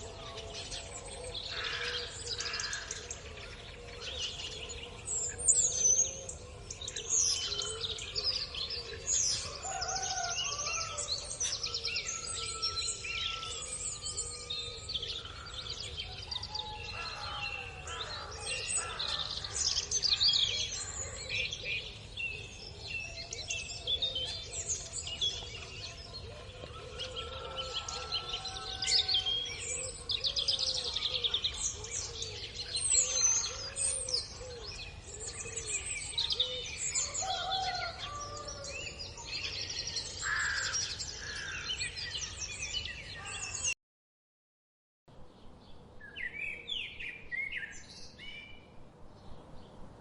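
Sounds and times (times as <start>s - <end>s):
songbirds chirping and trilling: 0.0s - 43.8s, 45.1s - 50.0s.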